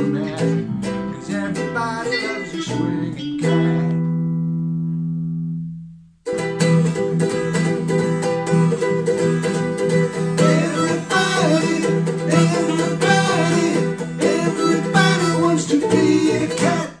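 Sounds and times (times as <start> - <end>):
electric bass guitar: 0.0 - 17.0
sliding lead melody: 0.0 - 17.0
ukulele strumming: 0.0 - 17.0.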